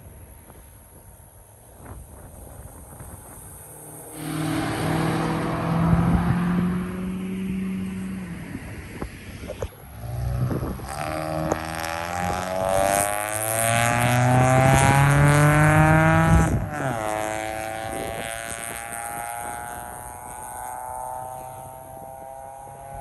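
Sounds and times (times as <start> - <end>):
car engine accelerating: 2.6 - 23.0.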